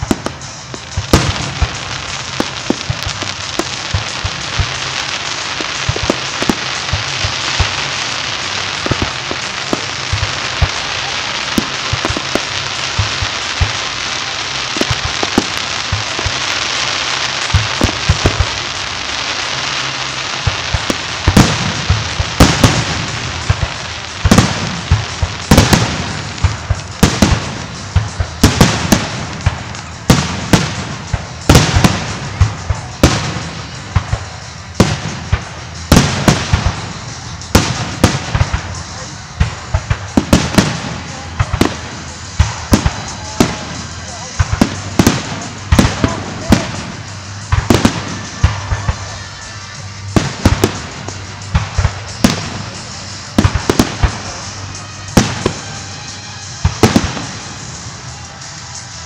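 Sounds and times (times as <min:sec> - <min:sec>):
firework shell bursts: 0:00.0 - 0:59.0
fireworks crackling: 0:00.0 - 0:59.0.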